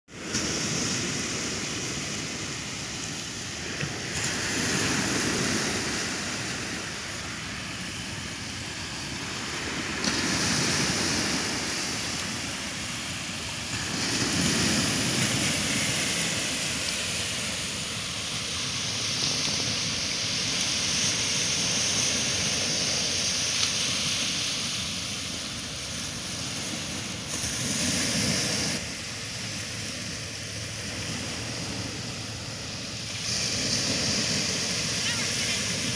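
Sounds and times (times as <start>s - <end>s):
small waves breaking on sand: 0.1s - 35.9s.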